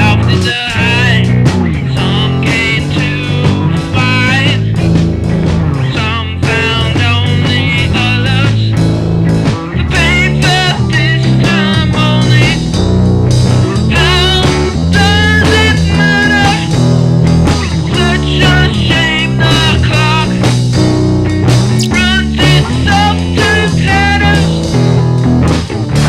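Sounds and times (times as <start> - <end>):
psychedelic rock music: 0.0 - 26.0.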